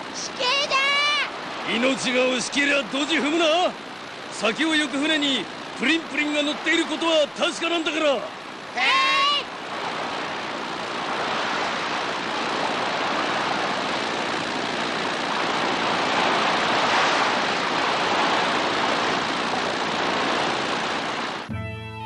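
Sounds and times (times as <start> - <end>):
hovercraft skimming over water: 0.0 - 21.5.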